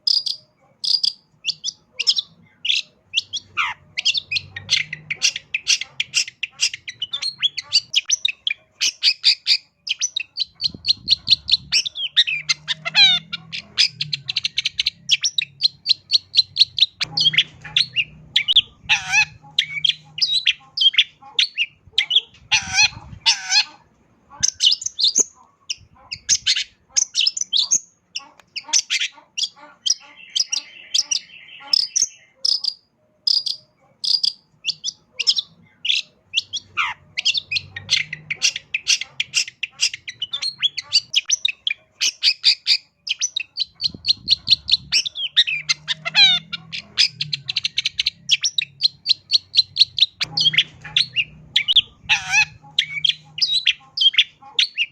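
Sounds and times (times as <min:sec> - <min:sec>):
bird singing varied song: 0:00.0 - 0:54.9.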